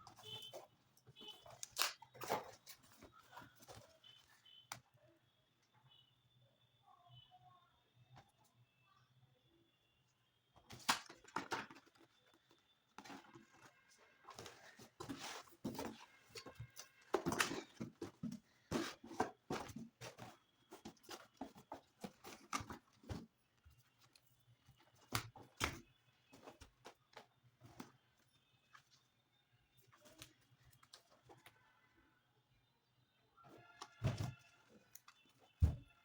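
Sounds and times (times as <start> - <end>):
books and packaging rustling: 0.0 - 5.0, 10.6 - 32.0, 32.6 - 36.0.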